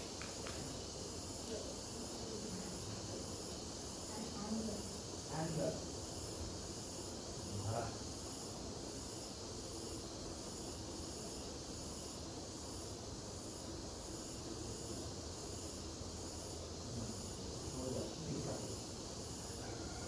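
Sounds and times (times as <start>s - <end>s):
insects chorus pulsing hiss: 0.0s - 20.0s.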